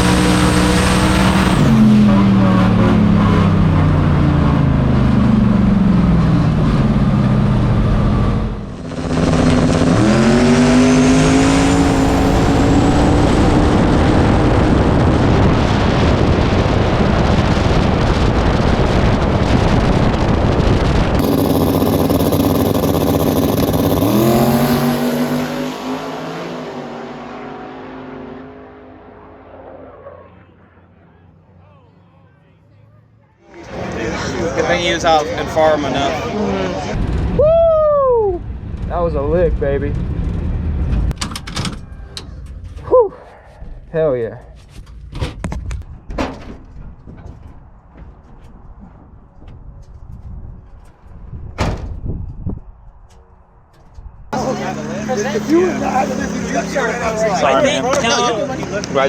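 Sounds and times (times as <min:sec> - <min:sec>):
drag race cars at full throttle: 0:00.0 - 0:59.0.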